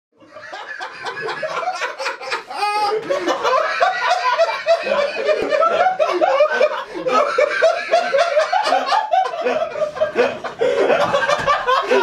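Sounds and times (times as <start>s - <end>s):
men laughing: 0.2s - 12.0s.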